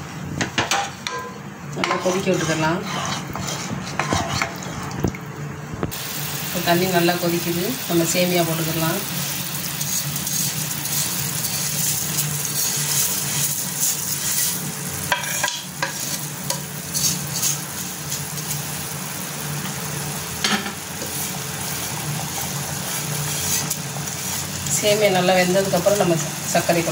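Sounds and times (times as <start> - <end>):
water boiling and bubbling: 4.4 - 26.9.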